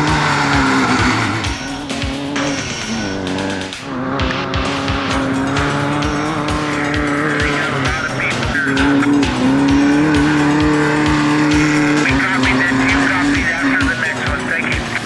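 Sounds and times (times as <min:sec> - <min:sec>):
distorted chords: 0:00.0 - 0:15.0
fast drum beat: 0:00.0 - 0:15.0.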